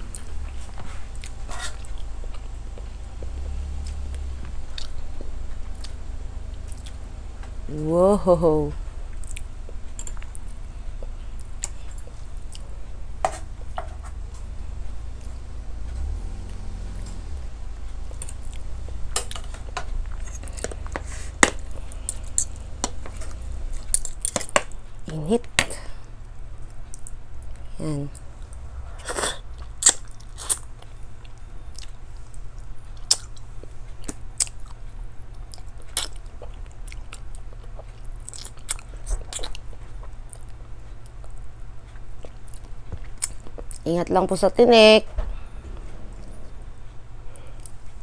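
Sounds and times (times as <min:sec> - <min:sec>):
person chewing: 0:00.0 - 0:07.1, 0:09.1 - 0:17.2, 0:17.9 - 0:24.7, 0:26.8 - 0:43.8
low steady hum: 0:00.0 - 0:48.0.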